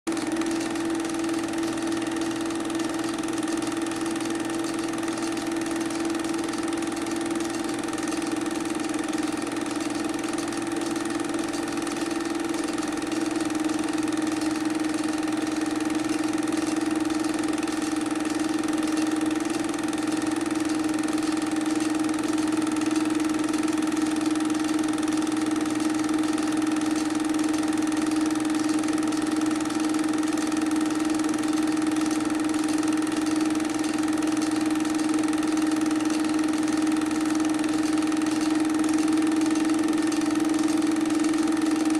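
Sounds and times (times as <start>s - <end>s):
film projector humming and whirring: 0.1s - 41.9s.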